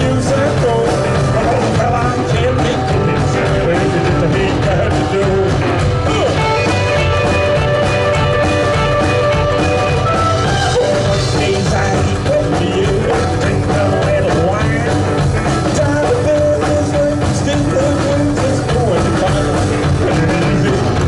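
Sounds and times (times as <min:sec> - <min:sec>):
person singing: 0:00.0 - 0:21.0
rock band playing live: 0:00.0 - 0:21.0.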